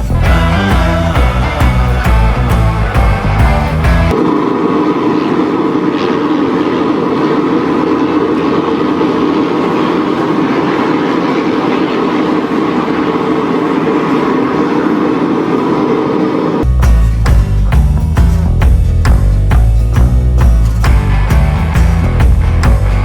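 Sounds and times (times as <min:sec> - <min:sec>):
machine running steadily: 0:00.0 - 0:23.0.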